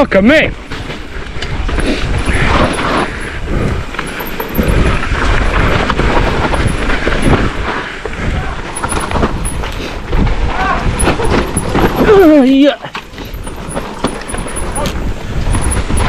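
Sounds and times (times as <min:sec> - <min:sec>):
bike rattling: 0:00.5 - 0:16.0
tyres rumbling over ground: 0:00.5 - 0:16.0
wind on microphone: 0:01.1 - 0:12.4, 0:13.1 - 0:16.0.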